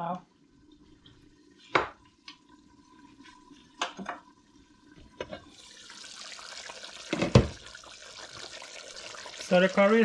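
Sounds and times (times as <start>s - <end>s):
curry sizzling in a pot: 0.0s - 10.0s.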